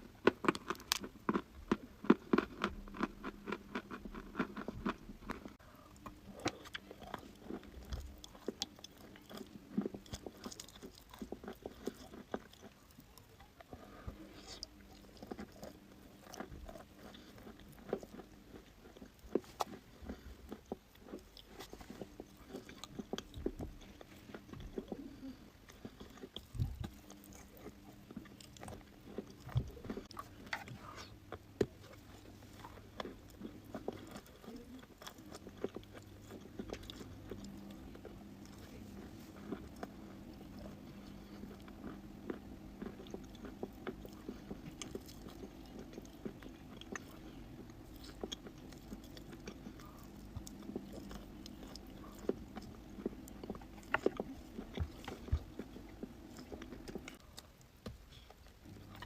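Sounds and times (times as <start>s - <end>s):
person crunching and chewing chalk: 0.0s - 59.0s.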